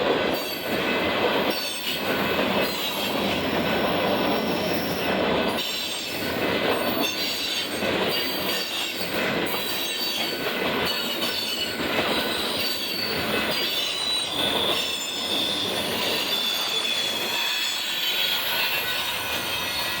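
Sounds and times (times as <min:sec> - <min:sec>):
freight train rumble: 0:00.0 - 0:20.0
train wheels squealing: 0:00.3 - 0:20.0.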